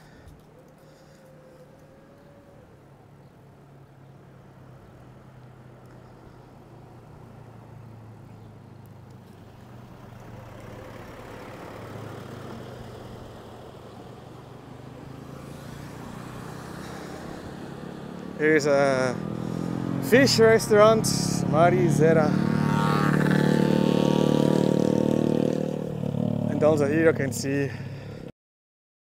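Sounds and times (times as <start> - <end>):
cars passing with tyre noise: 0.0 - 28.3.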